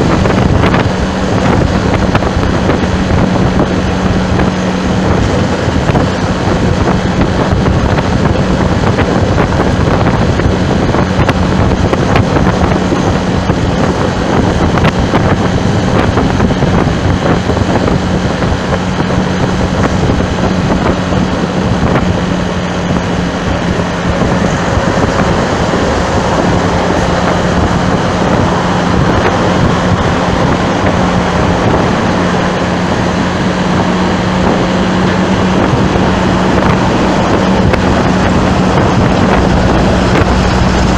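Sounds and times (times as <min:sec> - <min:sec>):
vehicle engine drone: 0:00.0 - 0:40.9
wind buffeting microphone: 0:00.0 - 0:40.9.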